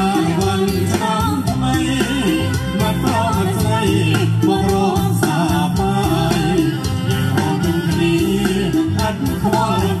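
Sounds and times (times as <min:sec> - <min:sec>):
song through portable speaker: 0:00.0 - 0:10.0.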